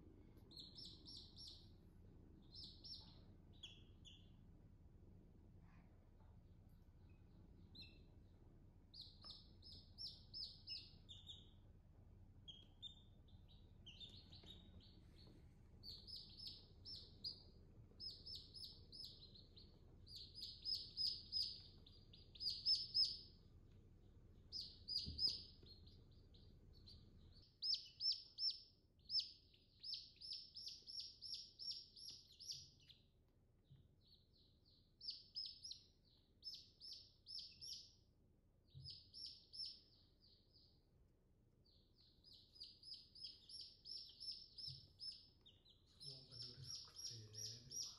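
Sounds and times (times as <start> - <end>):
chicks peeping: 0.3 - 1.8, 2.4 - 4.4, 7.1 - 8.3, 8.9 - 11.6, 12.4 - 38.0, 38.7 - 40.8, 41.6 - 47.9.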